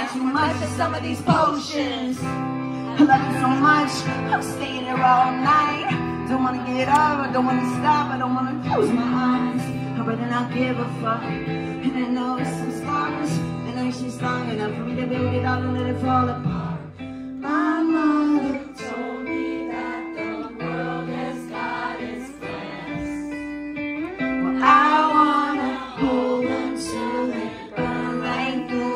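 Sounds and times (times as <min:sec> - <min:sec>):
woman singing into a microphone: 0:00.0 - 0:23.5, 0:24.4 - 0:28.9
acoustic guitar: 0:00.0 - 0:28.9.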